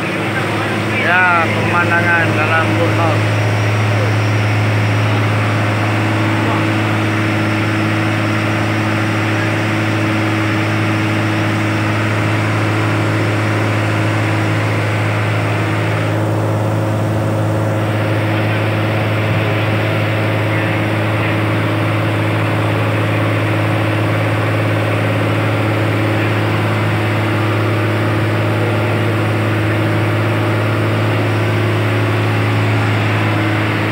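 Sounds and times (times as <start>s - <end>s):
boat engine droning: 0.0s - 33.9s.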